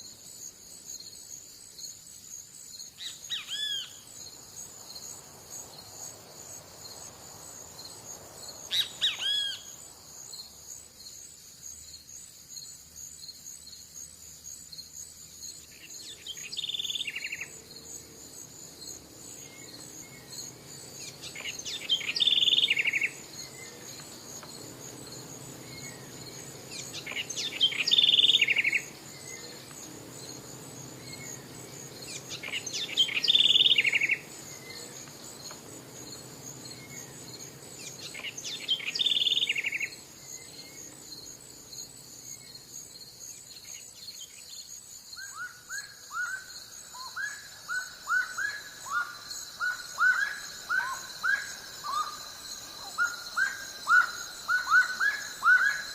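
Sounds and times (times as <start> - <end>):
insects chirping: 0.0 - 55.9.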